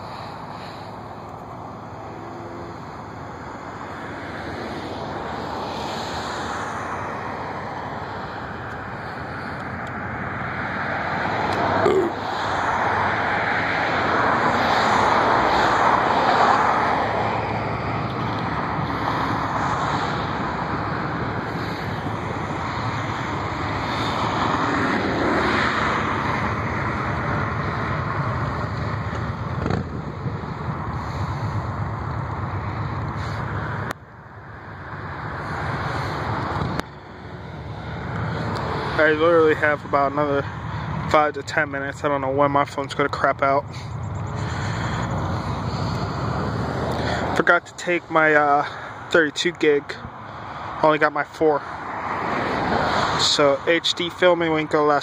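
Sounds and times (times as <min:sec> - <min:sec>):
jet airliner engines passing: 0:00.0 - 0:55.0.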